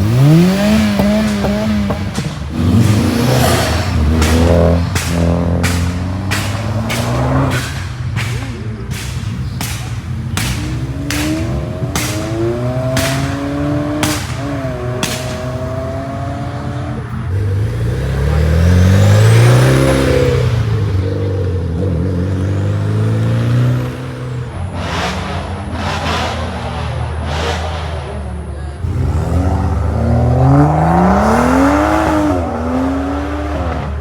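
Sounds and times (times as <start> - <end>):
sharp cracks: 0.0 - 28.1
car engine revving: 0.0 - 34.0
deep car engine revving: 0.0 - 34.0.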